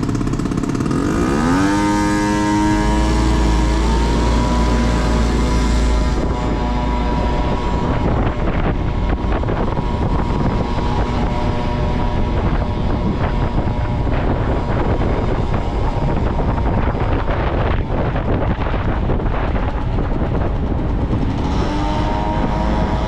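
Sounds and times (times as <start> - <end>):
motorcycle engine running: 0.0 - 23.0
wind rush on microphone: 0.0 - 23.0.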